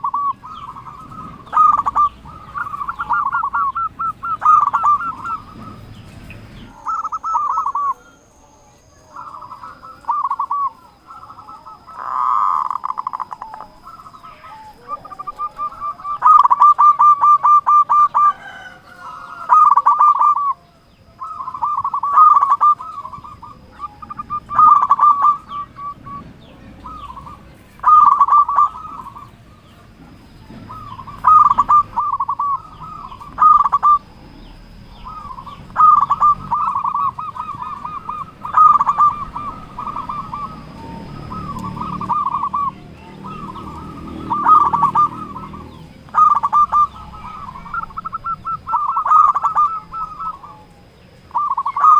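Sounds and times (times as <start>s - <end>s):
dove cooing trills: 0.0s - 51.9s.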